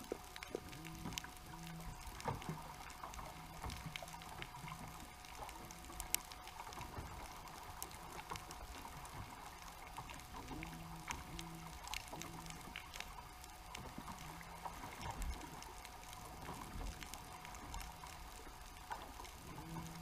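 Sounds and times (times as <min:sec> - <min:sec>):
faint underwater hiss: 0:00.0 - 0:20.0
low hum: 0:00.0 - 0:20.0.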